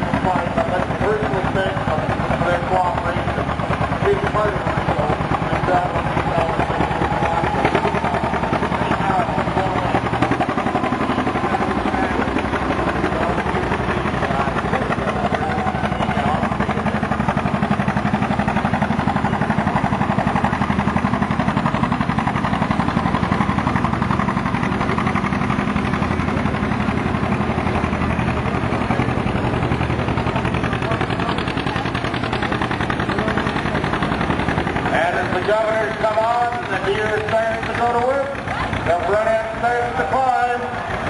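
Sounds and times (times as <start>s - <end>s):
tractor engine under full load: 0.0s - 41.0s.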